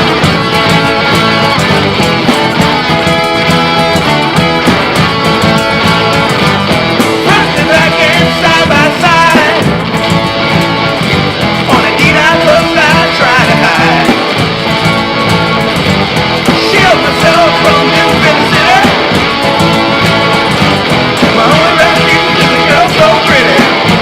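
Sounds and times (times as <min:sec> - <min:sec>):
rock music with strummed guitar: 0:00.0 - 0:24.0.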